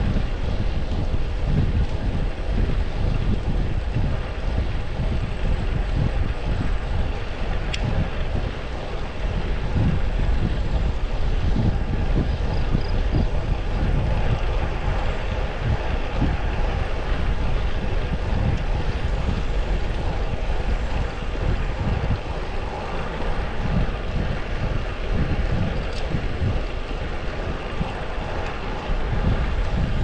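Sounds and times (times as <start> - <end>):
rushing air and road noise: 0.0 - 30.0
wind buffeting microphone: 0.0 - 30.0.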